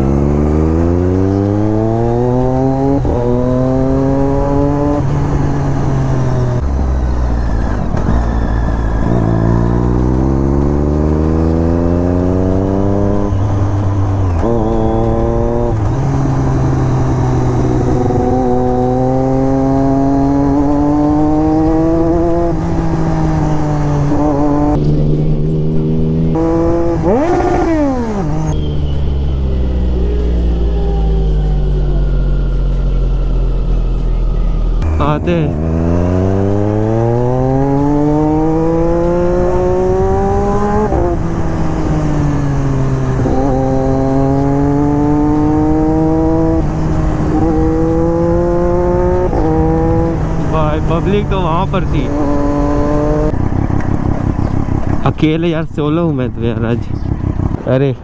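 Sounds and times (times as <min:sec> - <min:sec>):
motorcycle engine accelerating hard: 0:00.0 - 0:58.0.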